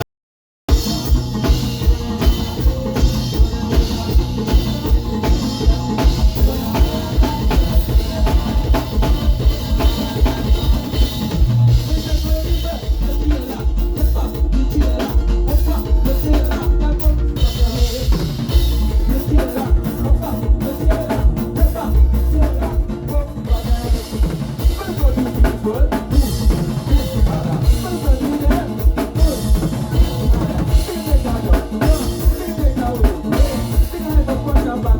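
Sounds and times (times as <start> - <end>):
drum kit playing a groove: 0.7 - 34.9
music with bass line: 0.7 - 34.9.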